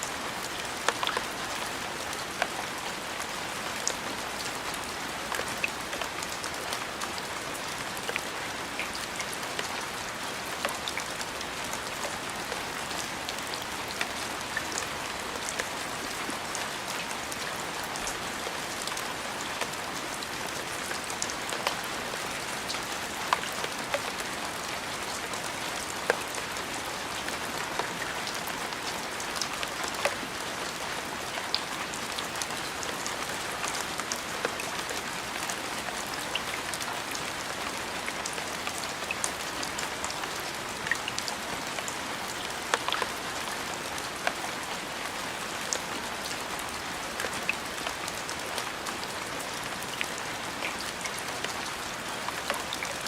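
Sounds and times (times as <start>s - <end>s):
rain on a hard surface: 0.0s - 53.0s.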